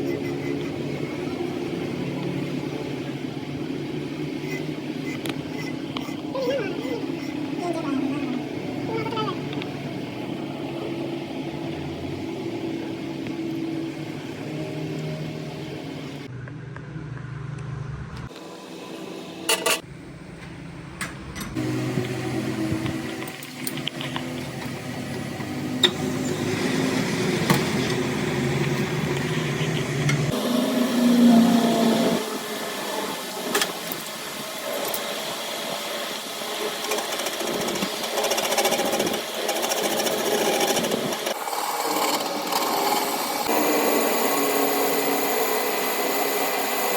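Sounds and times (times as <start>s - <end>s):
small machine running: 0.0s - 16.3s, 21.6s - 46.9s.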